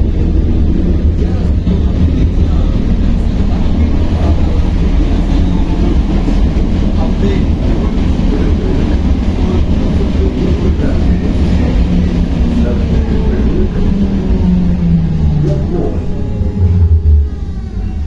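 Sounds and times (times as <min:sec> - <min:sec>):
loud low vehicle rumble: 0:00.0 - 0:18.0.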